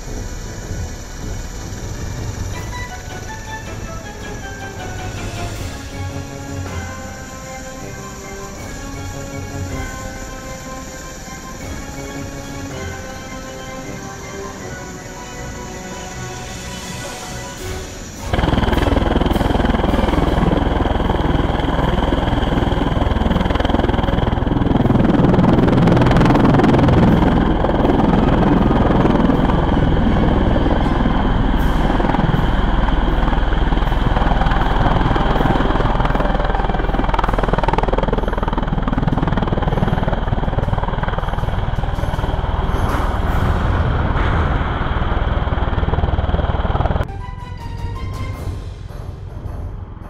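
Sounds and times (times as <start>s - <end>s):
tilt-rotor aircraft taking off: 0.0s - 50.0s.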